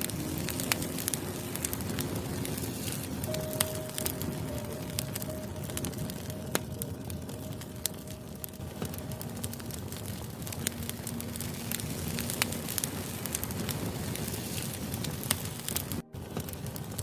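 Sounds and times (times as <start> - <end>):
firewood crackling and popping: 0.0 - 17.0
low rush of flames: 0.0 - 17.0.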